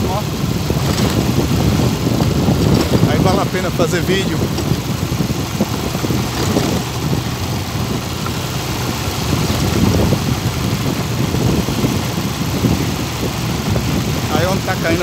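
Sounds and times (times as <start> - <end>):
low rumble of road noise: 0.0 - 15.0
vehicle engine running: 0.0 - 15.0.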